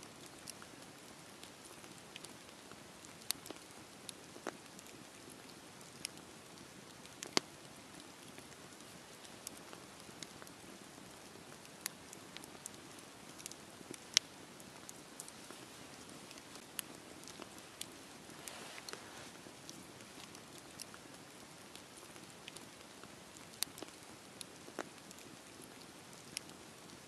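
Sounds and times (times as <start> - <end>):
campfire flames hissing: 0.0 - 27.0
logs popping and crackling: 0.0 - 27.0.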